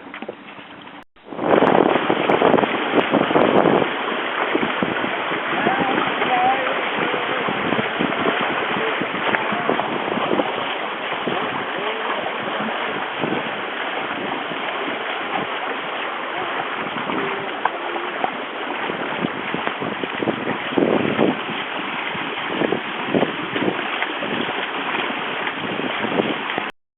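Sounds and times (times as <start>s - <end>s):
water rushing along hulls: 0.0s - 26.7s
wind on microphone: 0.0s - 26.7s.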